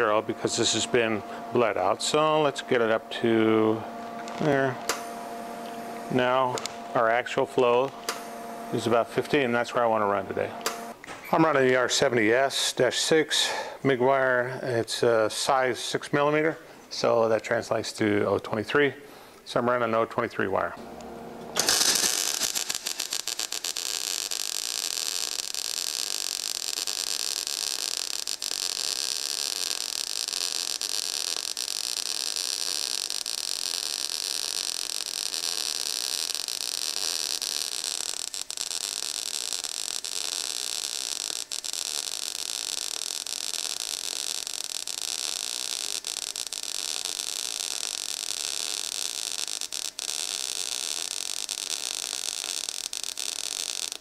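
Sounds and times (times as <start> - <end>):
welding arc crackling hiss: 0.0 - 18.2, 21.4 - 54.0.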